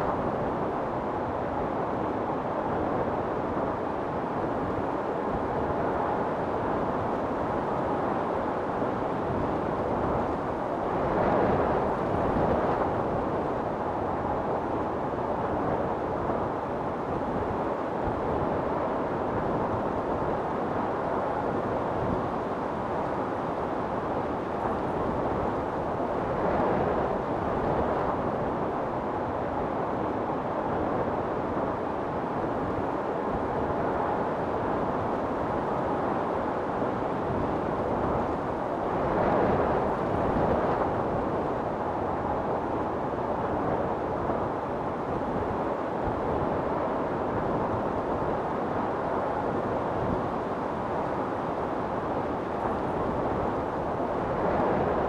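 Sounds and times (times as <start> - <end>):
wind storm blowing: 0.0 - 55.0.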